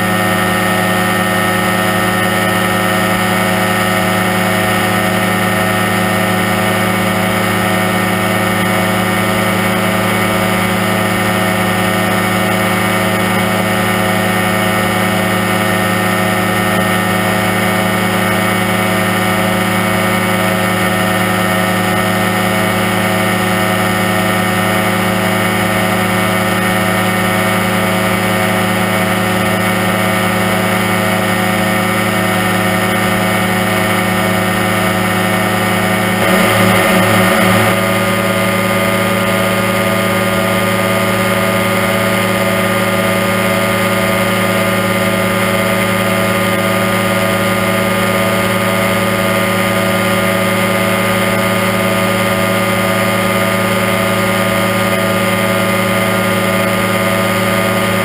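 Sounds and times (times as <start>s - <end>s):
aircraft engine and propeller running: 0.0s - 58.0s.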